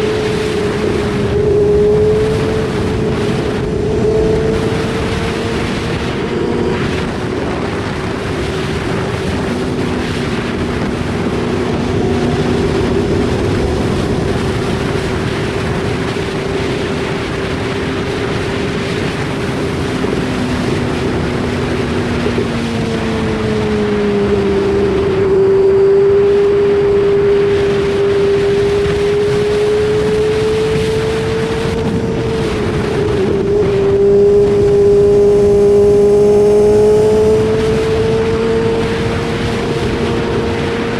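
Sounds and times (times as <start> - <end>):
motorcycle engine at high revs: 0.0 - 40.9
wind rushing over microphone: 0.0 - 40.9.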